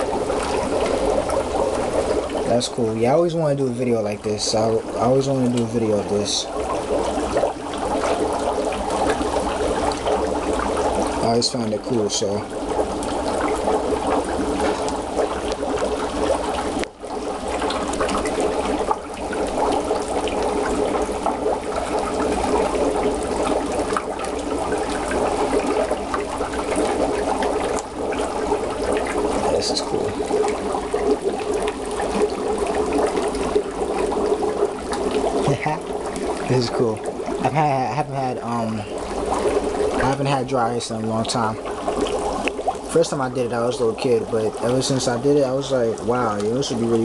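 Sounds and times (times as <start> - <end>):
dry ice bubbling in water: 0.0 - 47.0.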